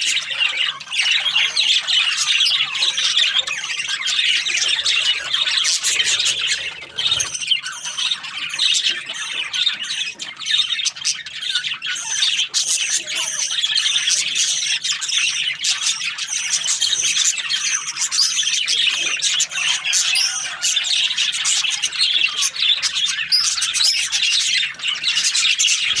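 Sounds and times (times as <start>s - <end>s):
budgerigars chirping and squawking: 0.0s - 26.0s.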